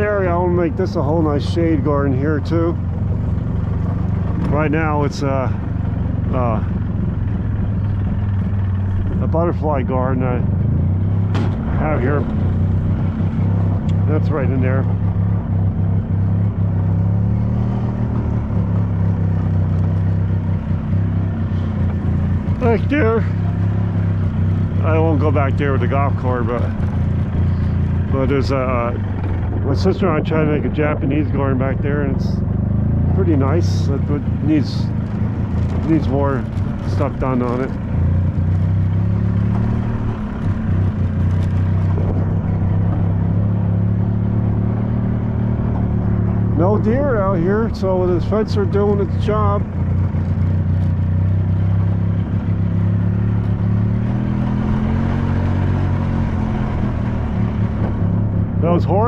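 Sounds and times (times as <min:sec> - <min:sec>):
golf cart engine hum: 0:00.0 - 0:59.0.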